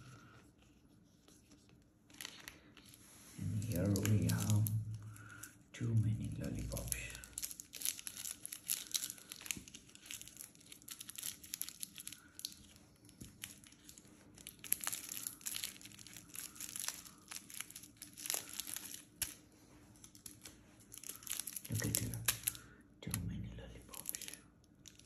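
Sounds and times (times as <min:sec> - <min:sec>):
candy wrappers crinkling: 0:00.0 - 0:25.0.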